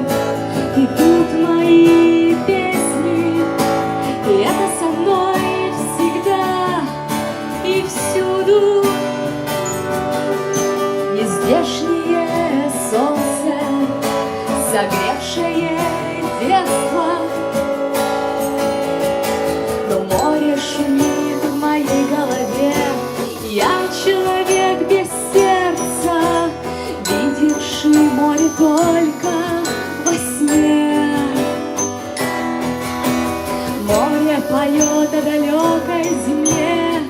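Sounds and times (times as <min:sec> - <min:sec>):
strummed acoustic guitar: 0:00.0 - 0:37.0
person singing: 0:00.7 - 0:07.0, 0:07.6 - 0:17.6, 0:19.9 - 0:32.0, 0:33.6 - 0:37.0.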